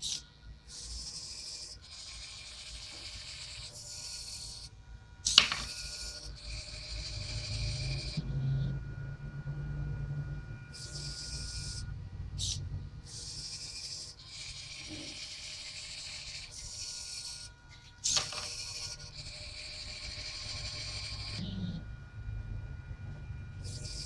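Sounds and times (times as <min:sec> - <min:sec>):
servo motors whirring: 0:00.0 - 0:08.7, 0:10.7 - 0:21.8, 0:23.6 - 0:24.0
steady low hum: 0:00.0 - 0:24.0.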